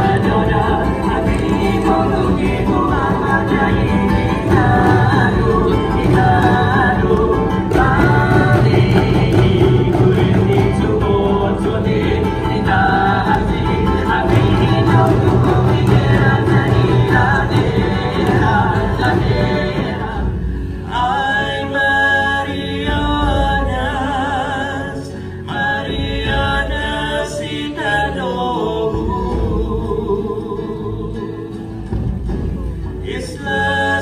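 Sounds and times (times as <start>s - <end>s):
group of voices singing: 0.0s - 34.0s
hand drums beating: 0.0s - 34.0s.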